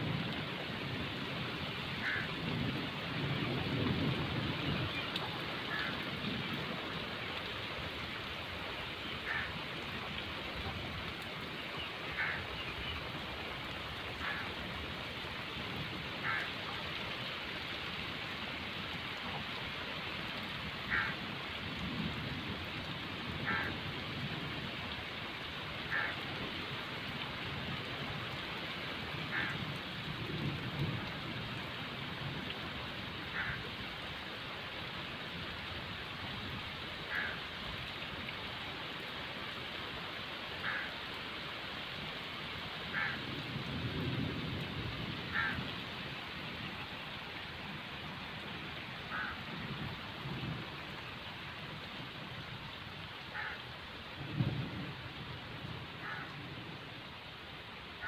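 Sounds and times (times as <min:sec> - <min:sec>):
heavy rain on wet ground: 0:00.0 - 0:58.0.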